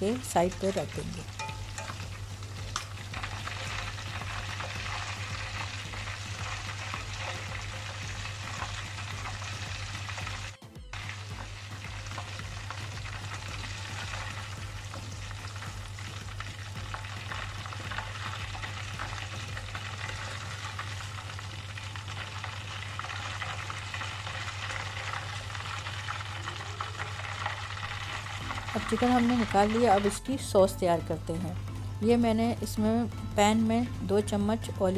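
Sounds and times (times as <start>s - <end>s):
chicken deep-frying in oil: 0.0s - 32.6s.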